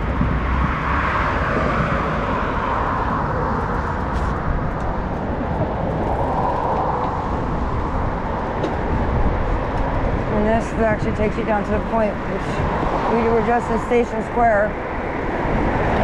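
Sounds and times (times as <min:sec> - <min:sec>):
deep rumble: 0:00.0 - 0:13.4
road noise: 0:00.0 - 0:16.0
wind buffeting microphone: 0:00.0 - 0:16.0.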